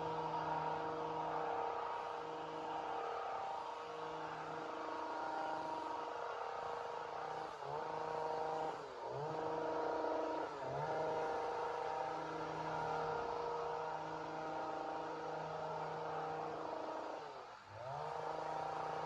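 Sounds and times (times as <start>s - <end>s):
chainsaw running at high revs: 0.0s - 19.0s.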